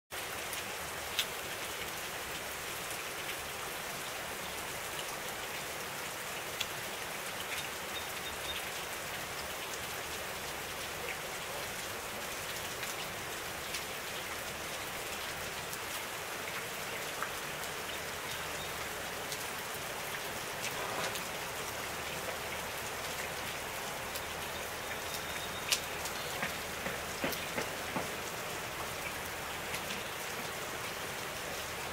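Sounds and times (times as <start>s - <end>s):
water dripping and trickling: 0.2s - 31.9s.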